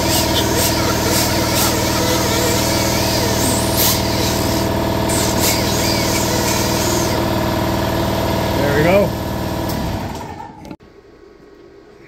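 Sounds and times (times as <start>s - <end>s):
air compressor humming: 0.0s - 10.8s.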